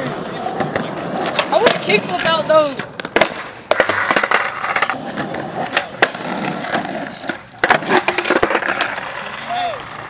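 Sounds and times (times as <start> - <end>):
skateboard clacking on ground: 0.0 - 10.0
skateboard wheels rolling on concrete: 0.0 - 10.0.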